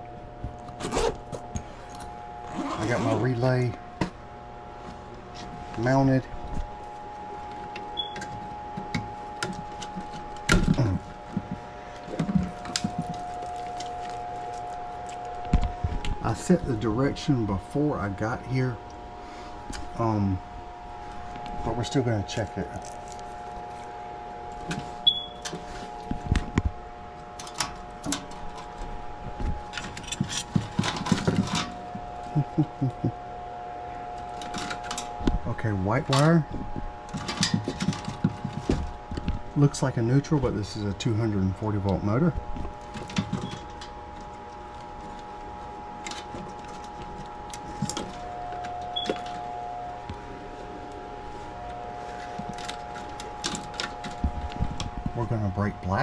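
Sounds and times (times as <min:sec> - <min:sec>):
multi-pitched whine: 0:00.0 - 0:56.0
steady hum: 0:00.0 - 0:56.0
hands handling wires and parts: 0:04.8 - 0:17.5, 0:20.9 - 0:33.2, 0:34.0 - 0:56.0.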